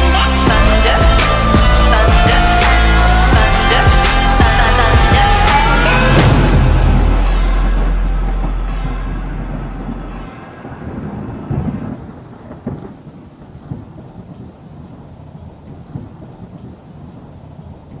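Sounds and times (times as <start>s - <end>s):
steady rain: 0.0s - 18.0s
thunder rumbling: 0.5s - 18.0s.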